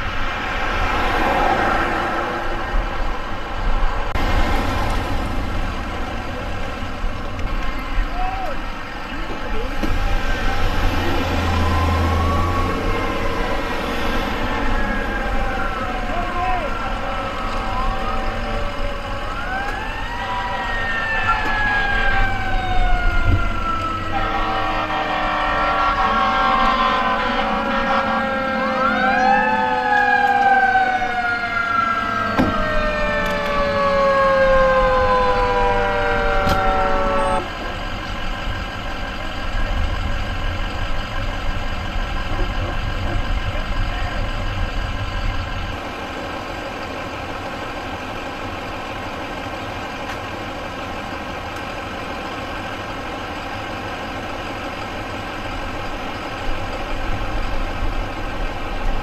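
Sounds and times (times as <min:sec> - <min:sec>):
fire truck siren wailing: 0:00.0 - 0:59.0
low engine rumble: 0:00.0 - 0:59.0.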